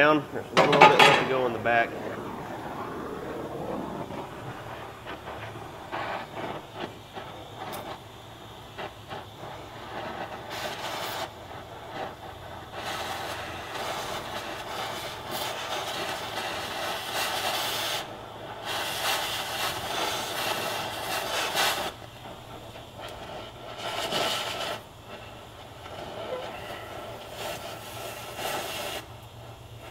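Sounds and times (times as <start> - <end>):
cutting torch hissing: 0.0 - 29.9.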